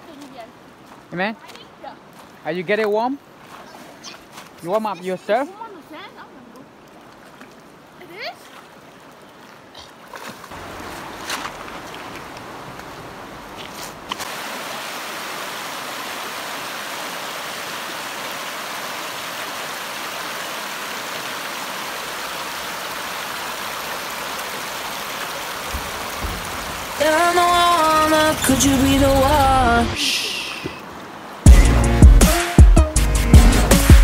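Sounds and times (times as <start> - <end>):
river water rushing over stones: 0.0 - 31.5.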